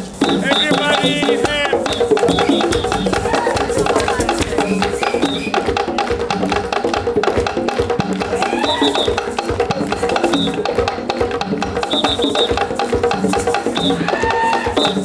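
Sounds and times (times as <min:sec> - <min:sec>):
hand drumming on tall drums: 0:00.0 - 0:15.0.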